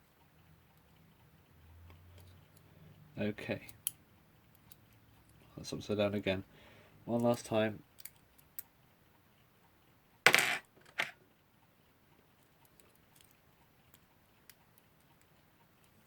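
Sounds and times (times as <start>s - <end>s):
small clicks of clock parts: 0.0s - 5.5s, 7.1s - 9.8s, 10.8s - 16.0s.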